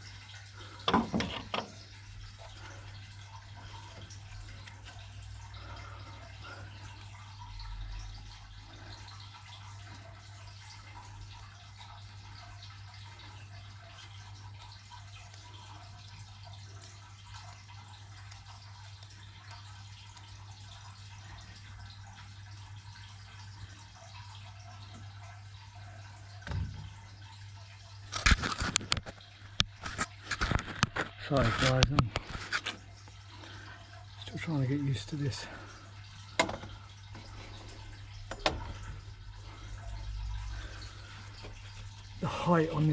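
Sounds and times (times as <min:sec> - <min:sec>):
water trickling and dripping: 0:00.0 - 0:42.9.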